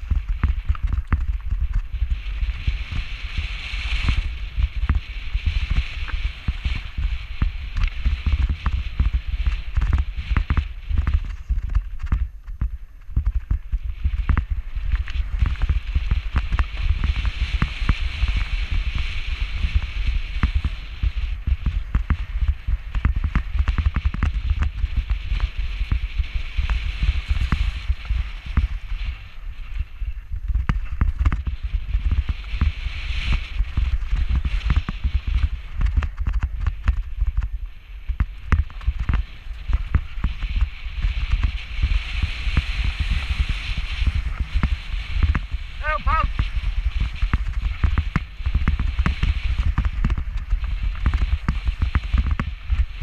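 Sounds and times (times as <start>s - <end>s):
mountain bike rattling over rocks: 0.0s - 53.0s
wind rumble on microphone: 0.0s - 53.0s.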